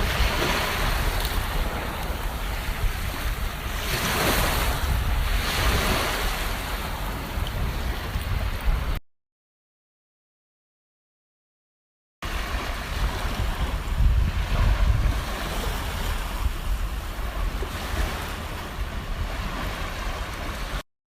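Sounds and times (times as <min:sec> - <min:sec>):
sea waves washing onto beach: 0:00.0 - 0:09.0, 0:12.2 - 0:20.8
wind buffeting microphone: 0:00.0 - 0:09.0, 0:12.2 - 0:20.8.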